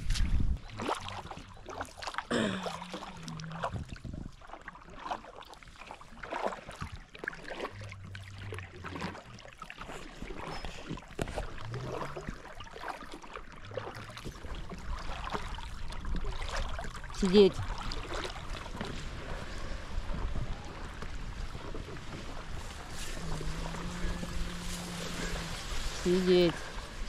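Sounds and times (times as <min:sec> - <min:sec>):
paddles splashing in water: 0:00.0 - 0:27.0
water trickling off paddles: 0:00.0 - 0:27.0.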